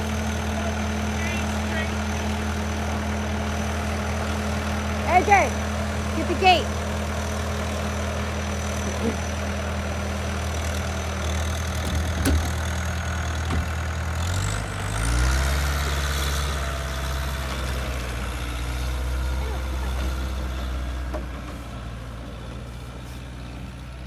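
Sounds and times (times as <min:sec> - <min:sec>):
vehicle engine idling and revving: 0:00.0 - 0:24.0.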